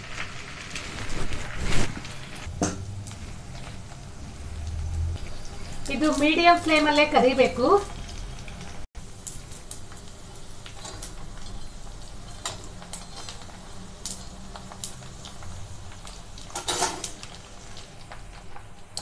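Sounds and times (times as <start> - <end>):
frying in hot oil sizzling: 0.0 - 19.0.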